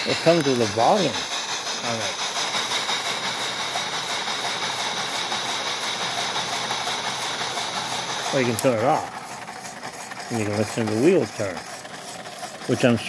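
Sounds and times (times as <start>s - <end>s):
electronic steam locomotive chuffing: 0.0s - 13.0s.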